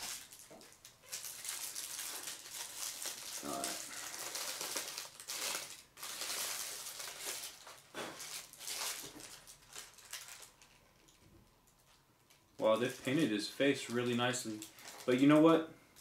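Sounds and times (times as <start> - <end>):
rustling and handling noises: 0.0 - 16.0.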